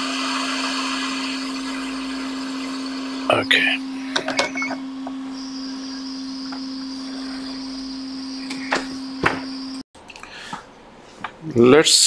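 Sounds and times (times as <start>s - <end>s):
high whine: 0.0s - 9.8s
hot air blower humming: 0.0s - 9.8s.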